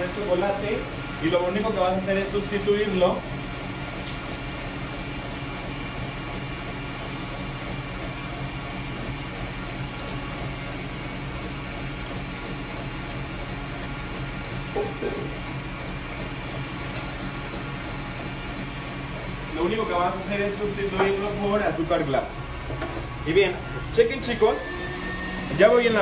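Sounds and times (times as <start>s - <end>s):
electric mixer whipping cream: 0.0s - 26.0s.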